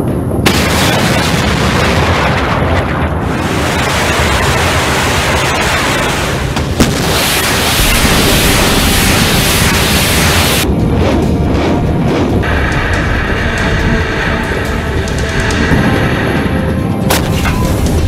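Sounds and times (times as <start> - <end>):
rocket motors roaring: 0.7 - 18.0.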